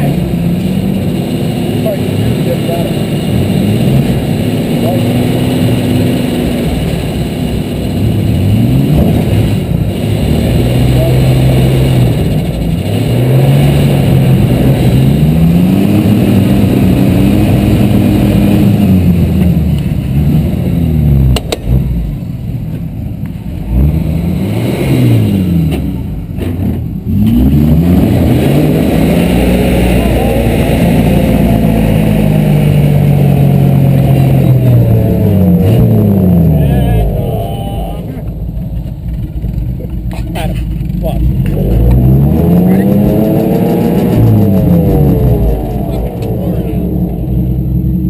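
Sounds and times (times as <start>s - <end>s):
truck engine revving hard: 0.0s - 22.2s, 23.6s - 48.0s.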